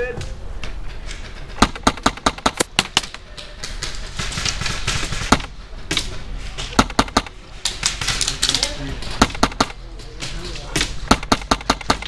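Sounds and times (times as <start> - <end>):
airsoft guns firing: 1.5 - 12.0.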